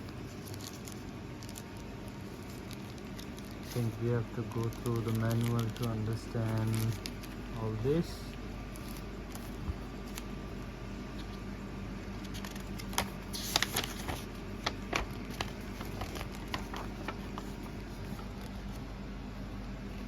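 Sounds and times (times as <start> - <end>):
paper rustle: 0.0 - 7.9, 8.7 - 10.3, 12.1 - 18.8.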